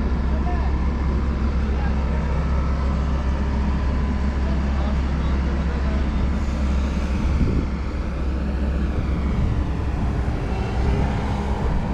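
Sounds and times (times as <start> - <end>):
diesel engine rumbling: 0.0 - 11.9.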